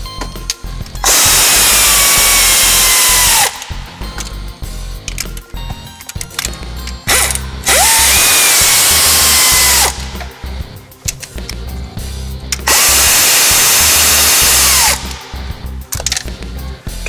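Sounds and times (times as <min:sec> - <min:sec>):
power ratchet whining: 0:00.0 - 0:11.6, 0:12.5 - 0:16.2.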